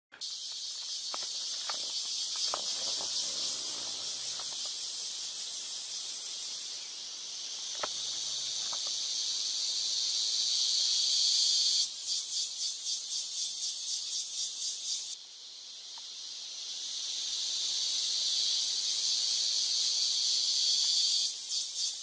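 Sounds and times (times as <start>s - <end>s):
forest insects chorus: 0.1s - 22.0s.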